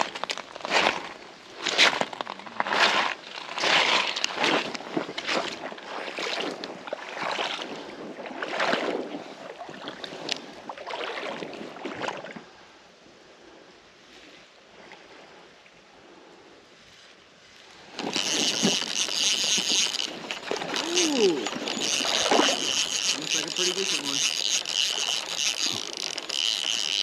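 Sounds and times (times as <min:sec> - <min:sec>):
legs wading through water: 0:00.0 - 0:12.5, 0:17.1 - 0:27.0.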